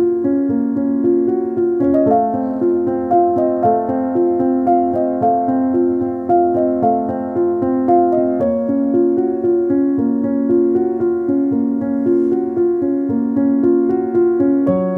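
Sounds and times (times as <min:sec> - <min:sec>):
piano music: 0:00.0 - 0:14.9.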